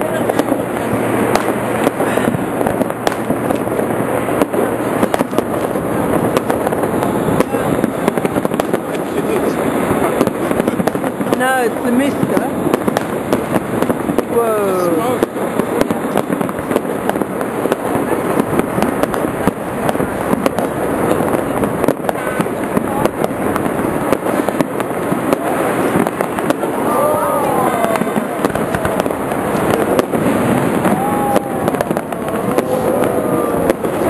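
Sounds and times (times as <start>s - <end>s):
fireworks crackling and banging: 0.0s - 34.0s
falling firework whistles: 1.2s - 34.0s.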